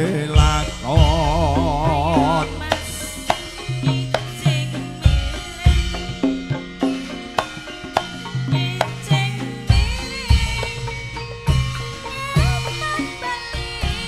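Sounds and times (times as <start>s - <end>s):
hand drum strokes: 0.0s - 14.0s
ringing metallophone notes: 0.0s - 14.0s.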